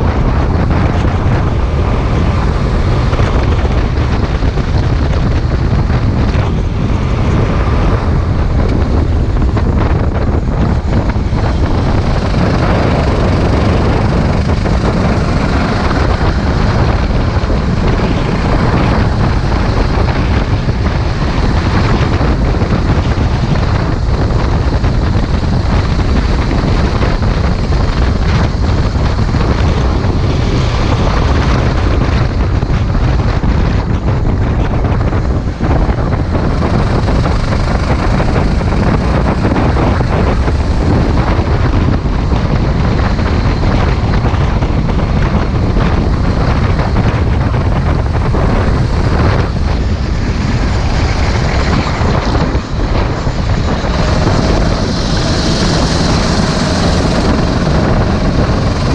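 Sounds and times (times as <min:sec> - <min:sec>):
kart engine running: 0:00.0 - 0:58.9
wind buffeting microphone: 0:00.0 - 0:58.9.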